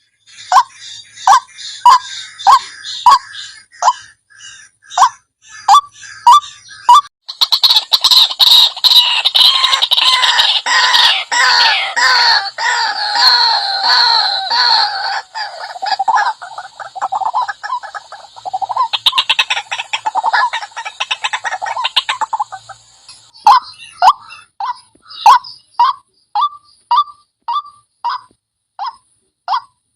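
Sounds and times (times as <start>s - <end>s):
bird croaking calls: 0.0s - 29.8s.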